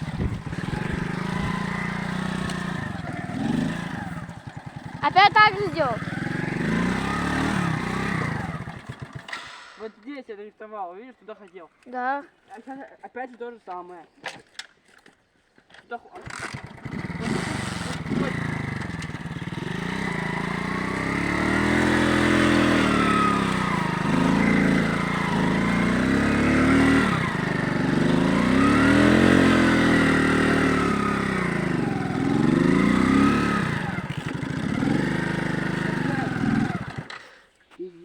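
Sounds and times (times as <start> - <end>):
moped engine revving: 0.0 - 9.8, 16.2 - 37.4.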